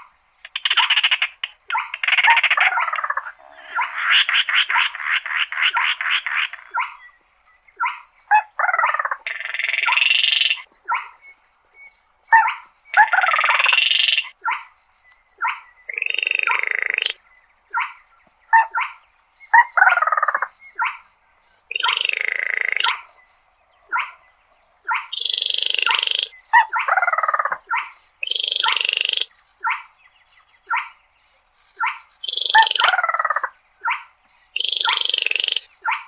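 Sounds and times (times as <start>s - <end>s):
bird rattling trill and grating calls: 0.0s - 7.1s, 7.8s - 11.2s, 12.3s - 14.7s, 15.4s - 18.0s, 18.6s - 29.9s, 31.8s - 36.0s.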